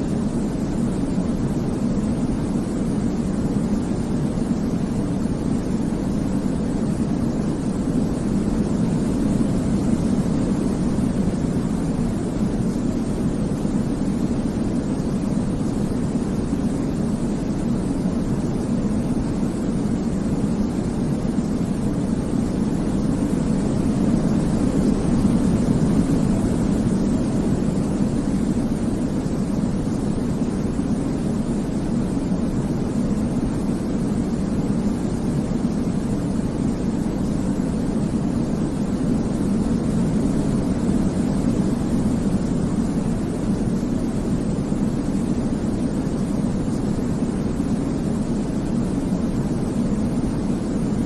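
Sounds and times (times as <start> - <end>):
deep rushing white noise: 0.0 - 51.0.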